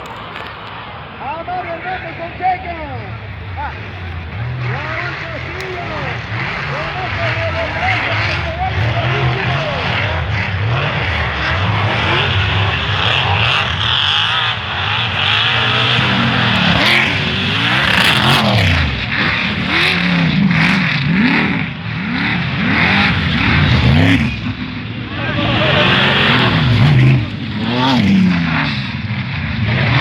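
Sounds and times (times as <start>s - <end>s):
race vehicle engines revving: 0.0s - 30.0s.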